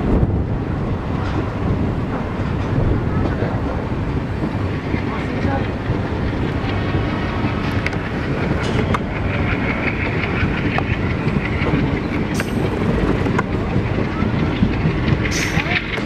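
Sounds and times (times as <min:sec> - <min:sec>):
diesel locomotive engine running: 0:00.0 - 0:16.0
rumble of train coaches: 0:00.0 - 0:16.0
wheels clicking over rail joints: 0:00.1 - 0:16.0.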